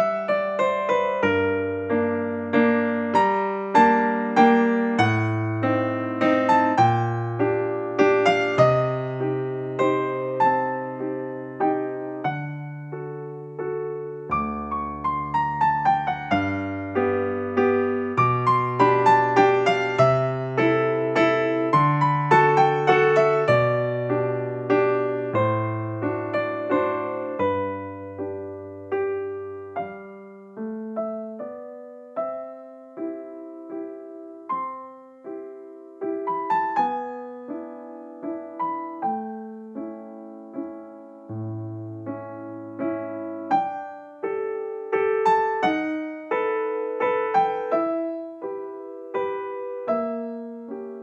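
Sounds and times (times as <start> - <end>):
slow gentle solo piano: 0.0 - 51.0.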